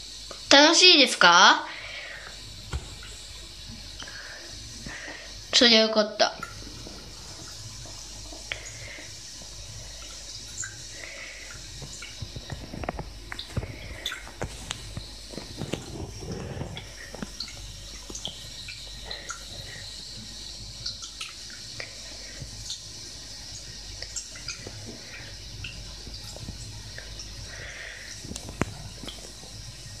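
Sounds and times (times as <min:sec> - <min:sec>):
water splashing and dripping: 0:00.0 - 0:30.0.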